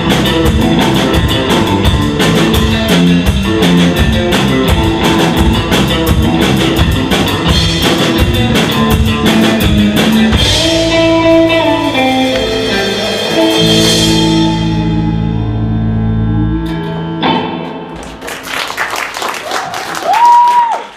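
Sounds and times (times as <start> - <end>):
electric bass: 0.0 - 18.5
surf rock band playing: 0.0 - 19.3
drum kit: 0.0 - 20.8
electric guitar: 0.0 - 20.8.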